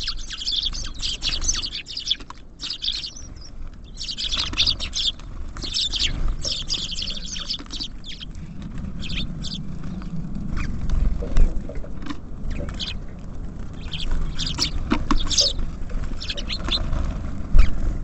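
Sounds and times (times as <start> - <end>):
small songbirds chirping: 0.0 - 17.9.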